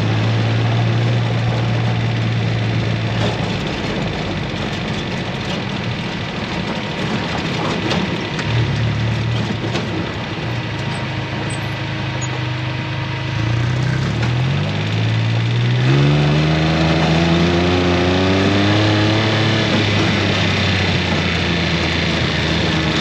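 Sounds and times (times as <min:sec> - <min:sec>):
vehicle engine accelerating: 0:00.0 - 0:23.0.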